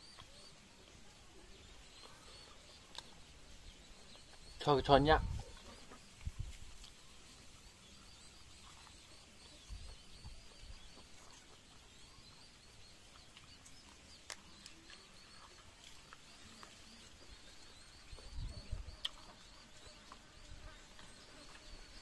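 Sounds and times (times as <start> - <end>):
faint high chirps: 0.0 - 22.0.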